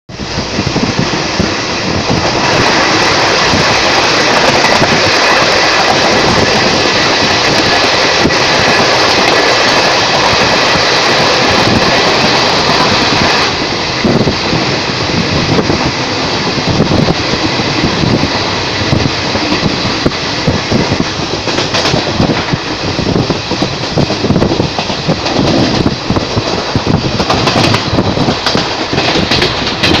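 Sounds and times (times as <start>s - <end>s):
rushing wind: 0.1s - 30.0s
train wheels clattering on rails: 0.1s - 30.0s.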